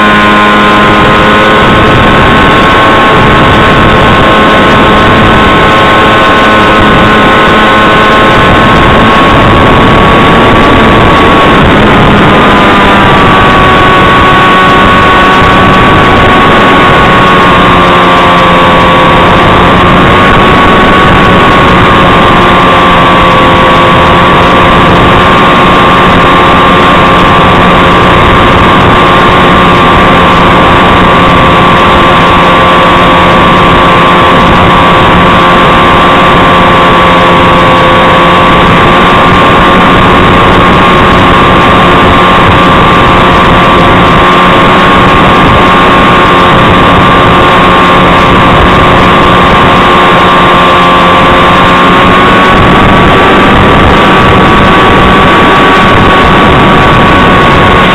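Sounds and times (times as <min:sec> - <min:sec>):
electric motor and propeller whine: 0:00.0 - 0:57.9
rushing wind noise: 0:00.0 - 0:57.9.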